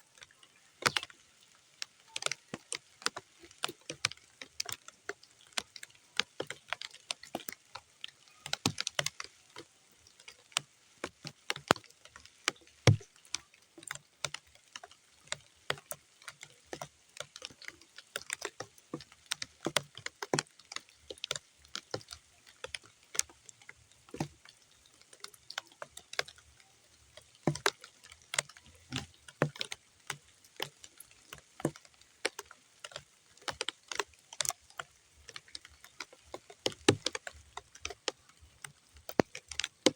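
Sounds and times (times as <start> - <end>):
raindrops on muddy ground: 0.0 - 39.9.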